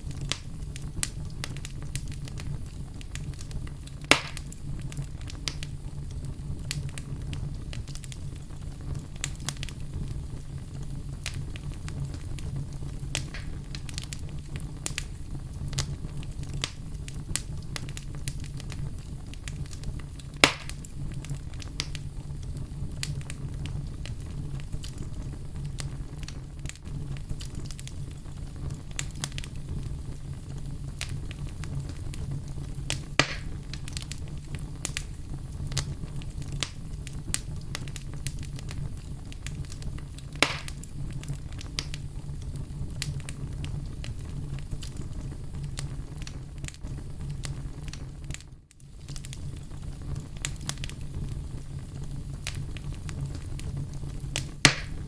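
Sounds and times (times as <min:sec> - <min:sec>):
fire flames rumbling: 0:00.0 - 0:55.0
loud fire pops: 0:00.0 - 0:55.0
wood fire crackling: 0:00.0 - 0:55.0.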